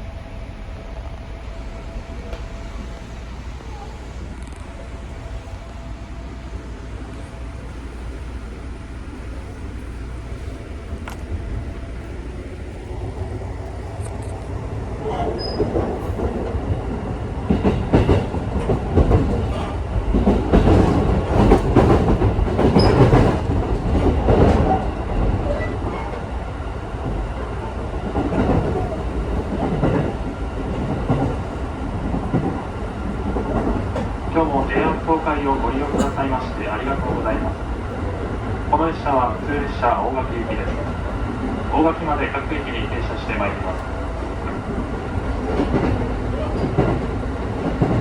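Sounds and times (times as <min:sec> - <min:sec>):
train rumble inside carriage: 0:00.0 - 0:48.0.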